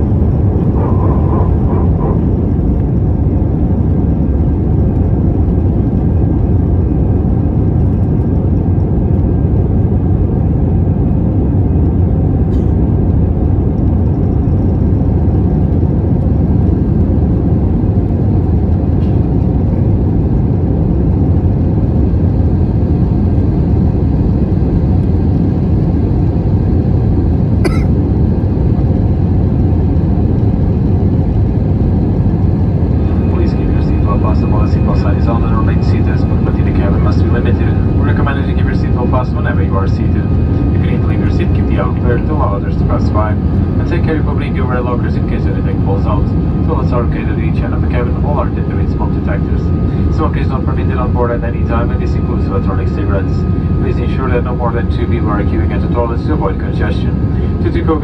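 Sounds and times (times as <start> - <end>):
jet airliner cabin roar: 0.0 - 58.0.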